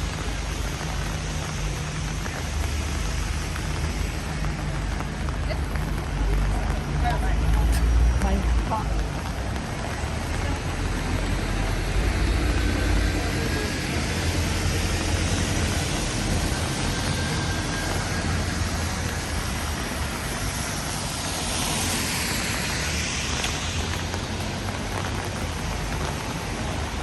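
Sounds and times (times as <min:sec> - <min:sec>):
city street noise: 0:00.0 - 0:27.0
vehicle tyre hiss on wet road: 0:00.0 - 0:27.0.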